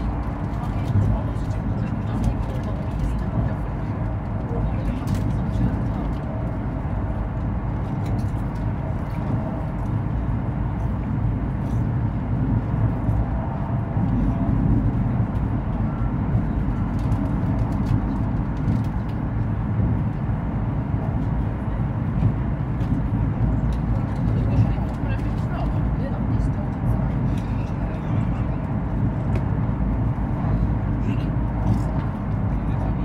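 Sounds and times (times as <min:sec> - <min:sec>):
train cabin low rumble: 0:00.0 - 0:33.0.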